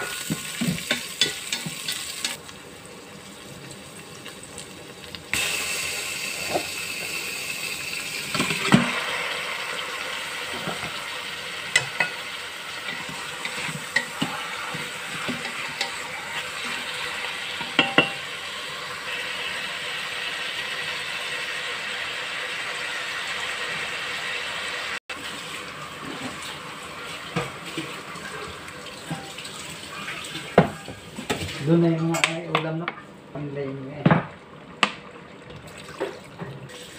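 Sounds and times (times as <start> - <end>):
meat sizzling in a pot: 0.0 - 31.7, 36.7 - 36.9.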